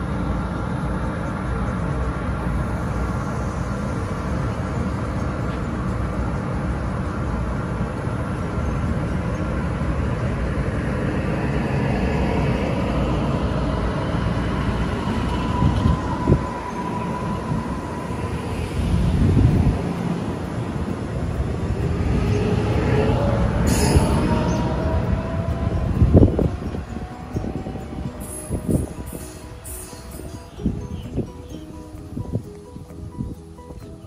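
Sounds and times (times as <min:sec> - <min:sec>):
faint whining tone: 0:00.0 - 0:34.0
train rumbling on rails: 0:00.0 - 0:34.0.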